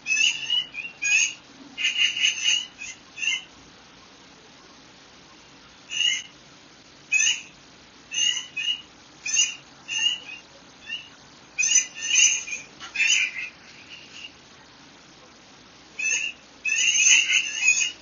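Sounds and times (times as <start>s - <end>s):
birds chirping: 0.0s - 18.0s
faint steady hiss: 0.0s - 18.0s.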